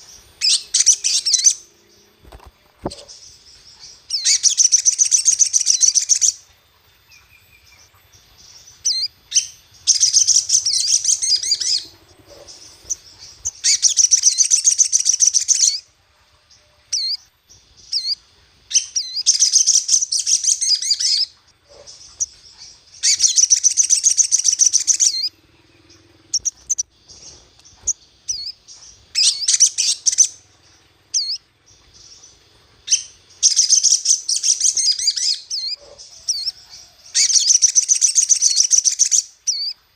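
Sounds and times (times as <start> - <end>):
songbird chattering trills: 0.0 - 39.9.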